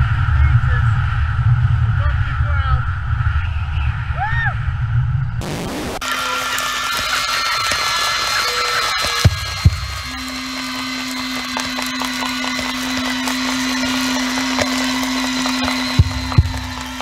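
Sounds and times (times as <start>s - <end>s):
low drone: 0.0s - 17.0s.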